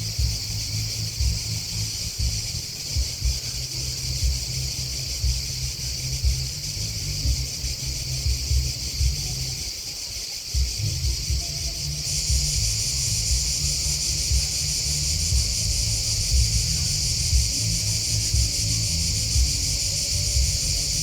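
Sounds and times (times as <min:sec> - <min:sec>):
low rumble: 0:00.0 - 0:09.7, 0:10.6 - 0:21.0
grasshoppers and crickets chirring: 0:00.0 - 0:21.0.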